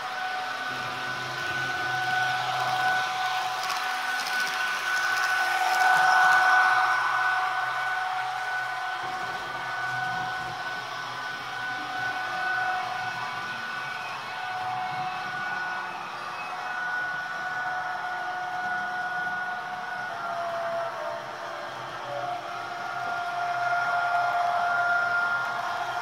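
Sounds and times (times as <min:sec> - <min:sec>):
blower noise: 0:00.0 - 0:26.0
two-note electric whine: 0:00.0 - 0:26.0.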